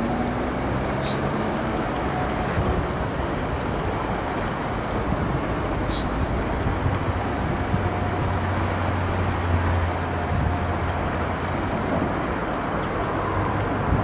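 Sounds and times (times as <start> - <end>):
electric outboard motor hum: 0.0 - 14.0
rushing outdoor noise: 0.0 - 14.0.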